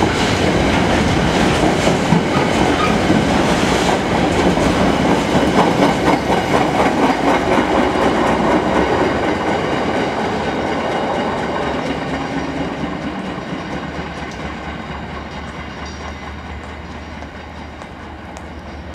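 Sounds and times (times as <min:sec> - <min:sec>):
train passing on track: 0:00.0 - 0:18.9.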